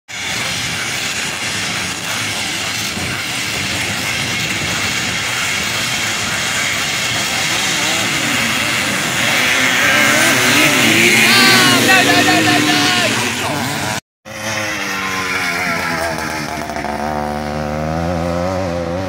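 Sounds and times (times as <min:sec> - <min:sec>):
motorcycle engines revving: 0:00.1 - 0:19.0.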